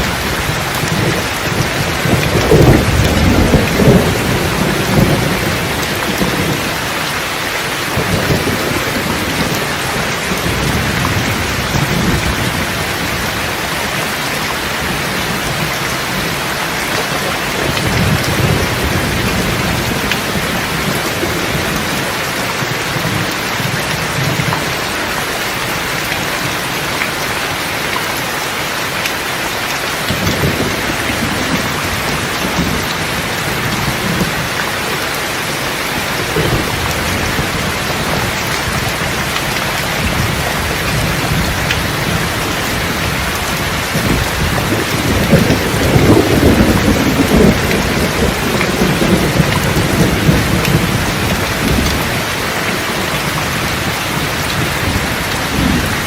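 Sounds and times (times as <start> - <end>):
low thunder rumbling: 0.0 - 24.9, 30.0 - 56.0
heavy rain falling: 0.0 - 56.0.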